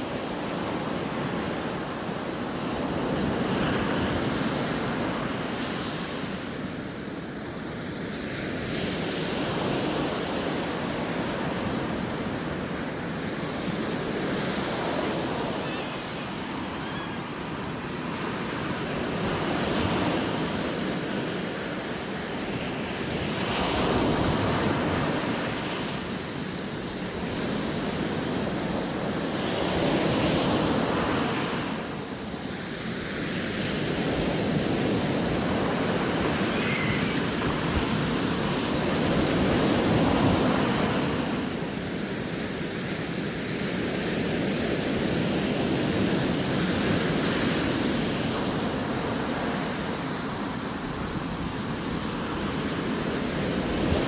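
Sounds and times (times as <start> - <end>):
ocean surf breaking on beach: 0.0 - 54.0.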